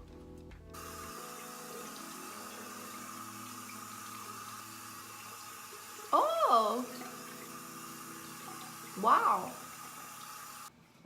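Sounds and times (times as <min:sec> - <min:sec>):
water running from a tap into a sink: 0:00.8 - 0:10.7.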